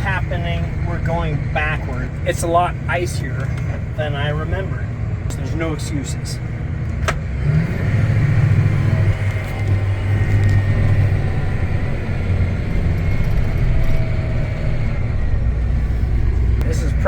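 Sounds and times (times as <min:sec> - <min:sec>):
tractor engine straining: 0:00.0 - 0:17.0.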